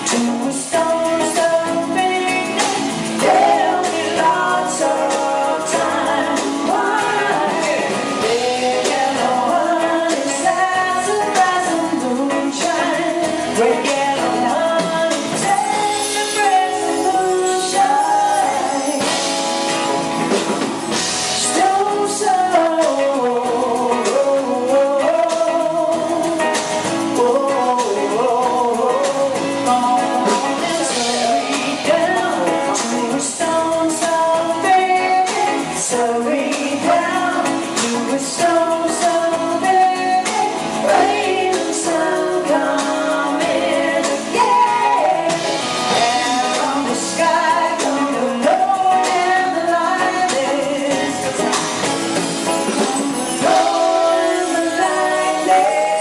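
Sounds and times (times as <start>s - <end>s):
woman singing: 0.0s - 19.7s, 20.6s - 56.0s
live pop band playing: 0.0s - 56.0s.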